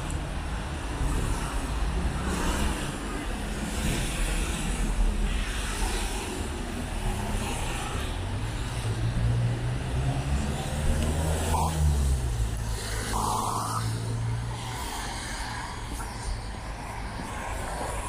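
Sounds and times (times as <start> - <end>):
city traffic noise: 0.0 - 18.0.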